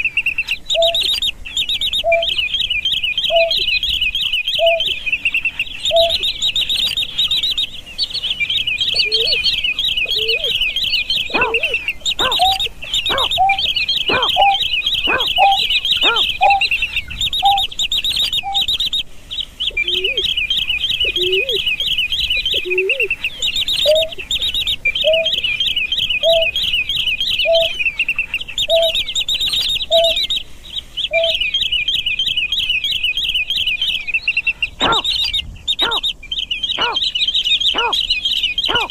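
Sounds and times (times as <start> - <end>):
low hollow bird hoots: 0.0 - 7.8, 8.4 - 18.8, 19.7 - 31.6, 34.4 - 36.1, 36.7 - 38.9
high-pitched chirping: 0.0 - 38.9.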